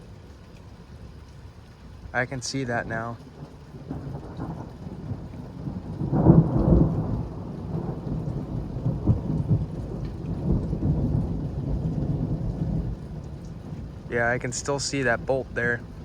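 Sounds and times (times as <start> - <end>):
steady rain: 0.0 - 16.0
thunder rumbling: 2.6 - 16.0.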